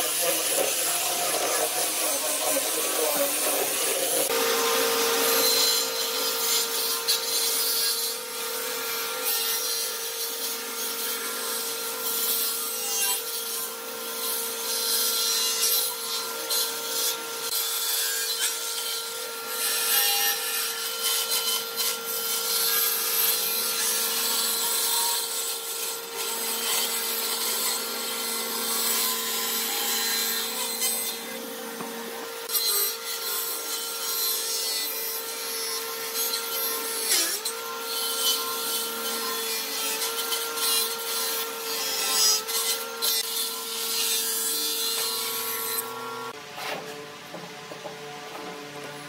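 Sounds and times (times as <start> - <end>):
power tool working wood: 0.0 - 49.0.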